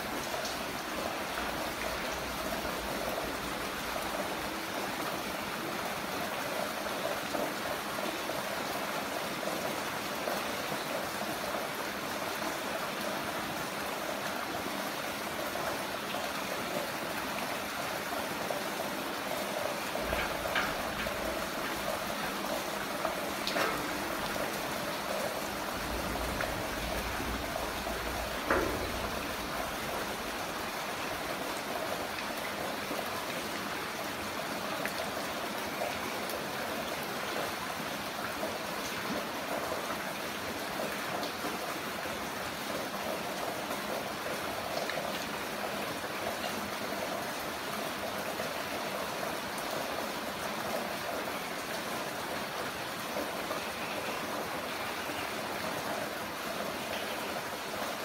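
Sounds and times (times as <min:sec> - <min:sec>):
heavy rain falling: 0:00.0 - 0:58.0
sharp drips and splashes: 0:00.0 - 0:58.0.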